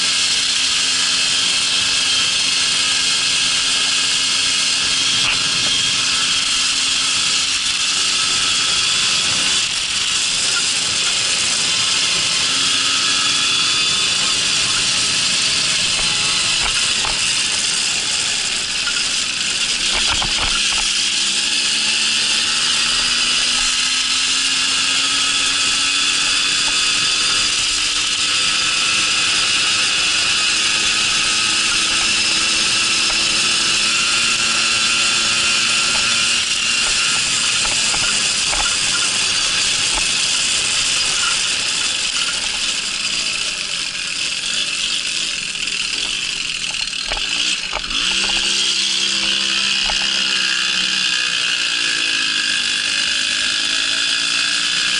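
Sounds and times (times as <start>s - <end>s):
moped two-stroke engine running: 0.0s - 54.9s.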